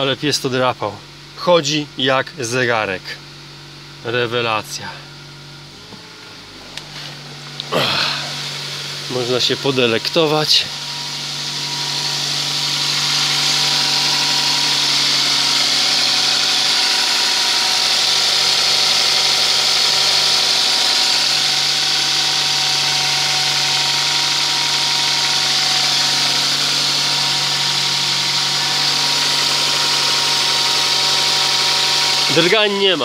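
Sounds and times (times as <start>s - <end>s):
car engine idling: 0.8s - 33.0s.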